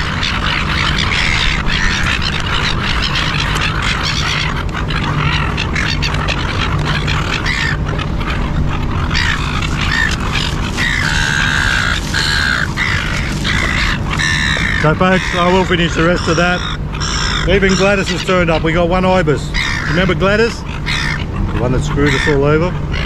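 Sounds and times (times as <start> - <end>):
gulls squawking: 0.0 - 23.0
low rumble: 0.0 - 23.0.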